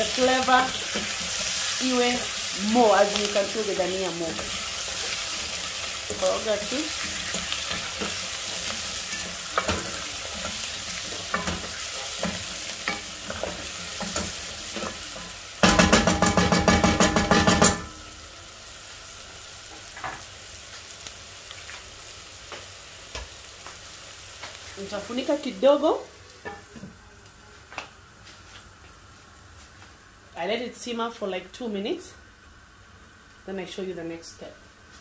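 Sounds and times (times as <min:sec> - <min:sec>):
vegetables sizzling in a frying pan: 0:00.0 - 0:35.0.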